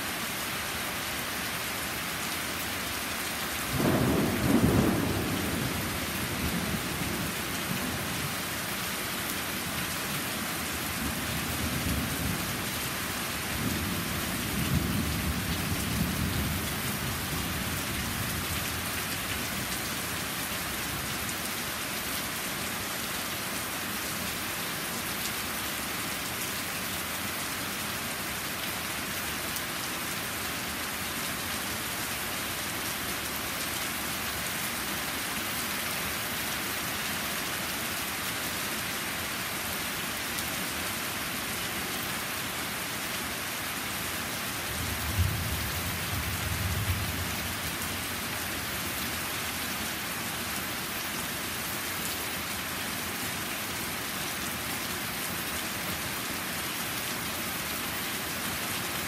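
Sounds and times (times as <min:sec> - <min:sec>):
heavy rain on stone and trees: 0:00.0 - 0:59.0.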